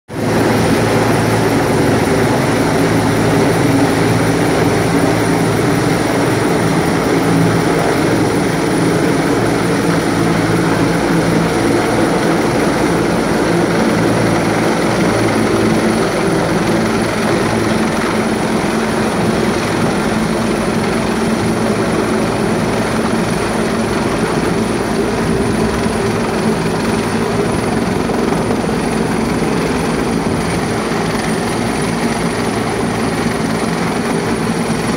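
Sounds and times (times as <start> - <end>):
helicopter hovering: 0.1 - 34.9.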